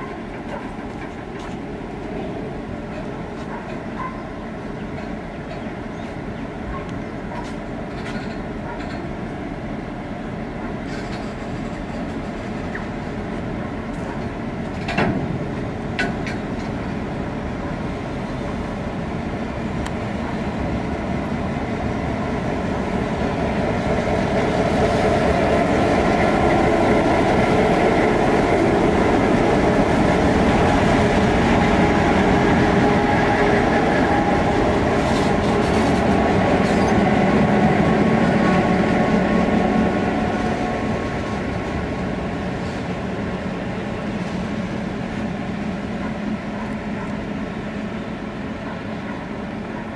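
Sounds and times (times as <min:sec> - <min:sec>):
diesel locomotives passing: 0:00.0 - 0:49.9
train wheels on rails: 0:00.0 - 0:49.9.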